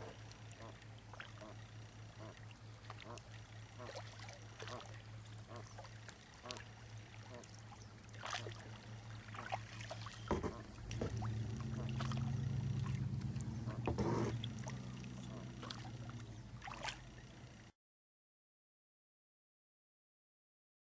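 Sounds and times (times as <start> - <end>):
paddle splashes and drips: 0.0 - 17.6
steady low hum: 0.0 - 17.8.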